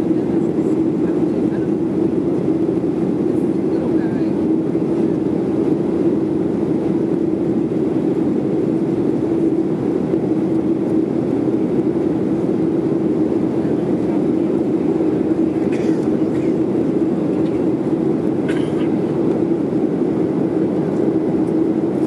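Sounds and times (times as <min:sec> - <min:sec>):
jet engine drone in cabin: 0:00.0 - 0:22.0.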